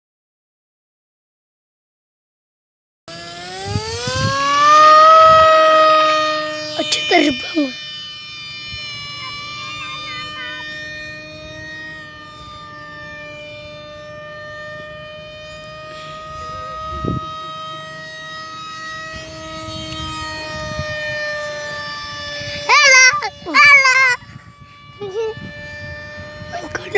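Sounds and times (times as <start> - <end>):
model jet whine overhead: 3.1 - 26.9.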